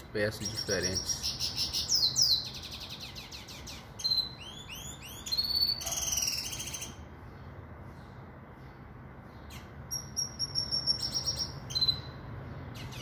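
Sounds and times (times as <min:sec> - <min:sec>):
bird singing trills: 0:00.0 - 0:13.0.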